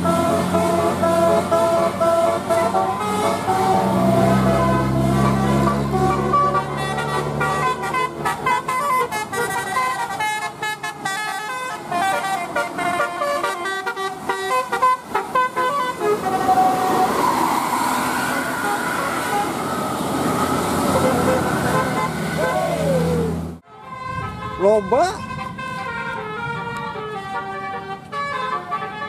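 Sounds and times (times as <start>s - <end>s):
multi-tone bus horn tune: 0.0s - 22.8s, 23.5s - 29.0s
bus engine passing: 0.0s - 24.6s, 25.2s - 29.0s.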